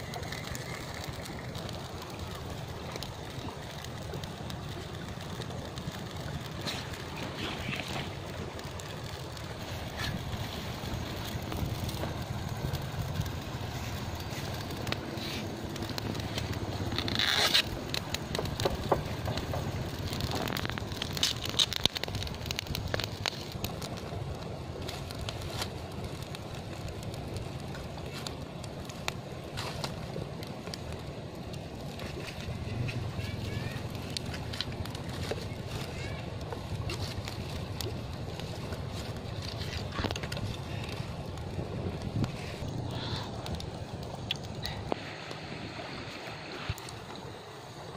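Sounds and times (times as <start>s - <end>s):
leaf rustling: 0.0s - 47.9s
wind rumble on microphone: 0.0s - 47.9s
wood fire crackling: 0.0s - 47.9s.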